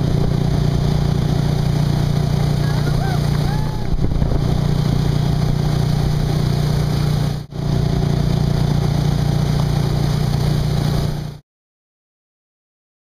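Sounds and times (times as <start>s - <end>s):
motorboat engine droning: 0.0s - 11.4s.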